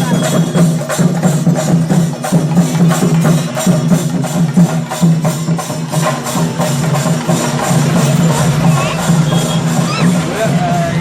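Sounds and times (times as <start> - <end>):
rhythmic folk percussion: 0.0 - 11.0.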